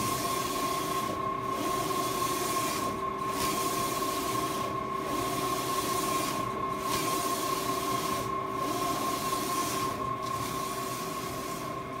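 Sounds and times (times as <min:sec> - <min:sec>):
printer running: 0:00.0 - 0:12.0.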